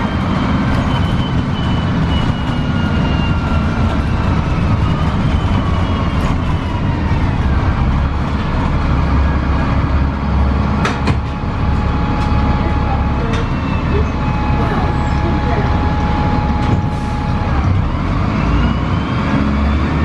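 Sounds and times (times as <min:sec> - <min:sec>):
bus diesel engine drone: 0:00.0 - 0:20.0
road noise: 0:00.0 - 0:20.0.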